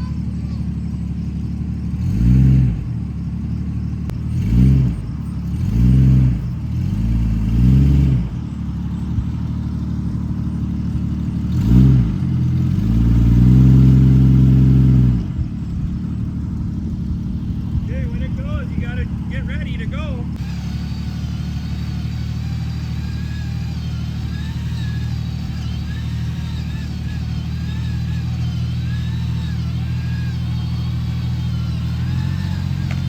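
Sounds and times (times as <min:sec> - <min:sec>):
engine idling and revving: 0:00.0 - 0:33.0.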